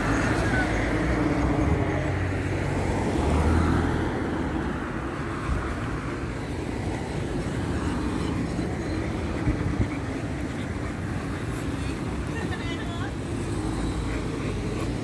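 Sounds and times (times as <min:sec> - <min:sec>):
road traffic rumbling: 0:00.0 - 0:15.0
vehicle passing: 0:00.0 - 0:15.0.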